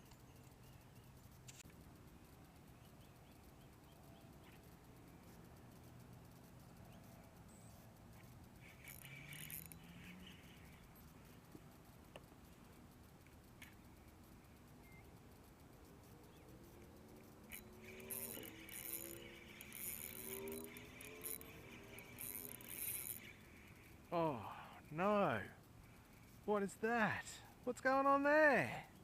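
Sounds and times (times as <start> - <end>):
faint ticks: 0.0 - 29.0.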